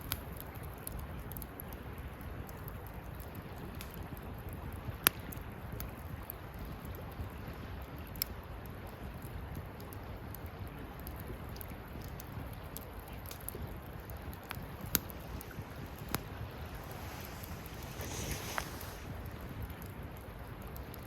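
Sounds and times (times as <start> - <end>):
campfire crackling and popping: 0.0 - 21.0
fire low rumble: 0.0 - 21.0.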